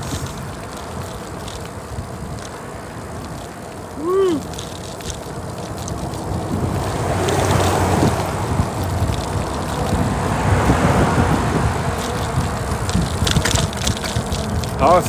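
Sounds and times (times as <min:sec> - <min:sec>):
bicycle tyre road noise: 0:00.0 - 0:15.0
wind rushing over microphone: 0:00.0 - 0:15.0.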